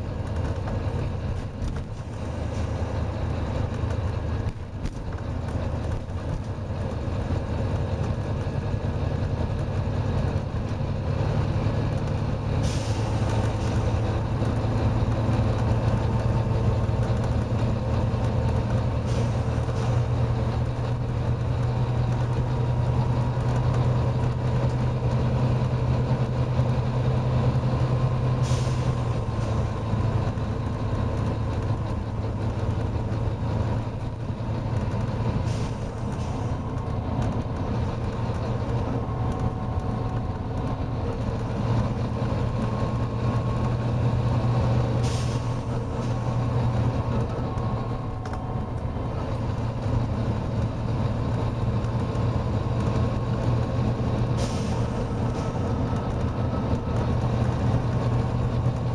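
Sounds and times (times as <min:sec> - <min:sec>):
bus diesel engine droning: 0:00.0 - 0:58.9.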